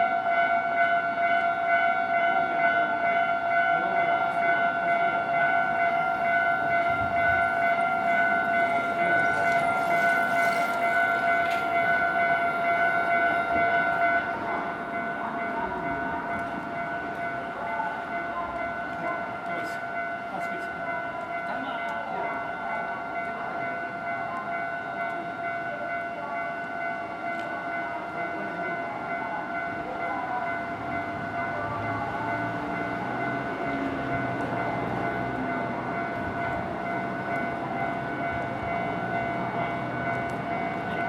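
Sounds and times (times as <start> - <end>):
level crossing alarm bell: 0.0 - 41.0.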